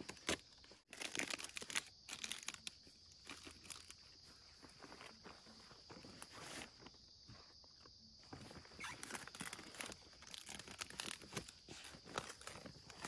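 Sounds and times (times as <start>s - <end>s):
twigs crackling: 0.0s - 7.0s, 8.8s - 13.0s
footsteps on forest floor: 2.2s - 13.0s.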